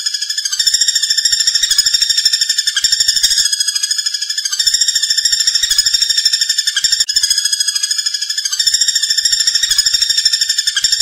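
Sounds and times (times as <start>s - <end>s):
woodpecker rattling trill: 0.0s - 11.0s.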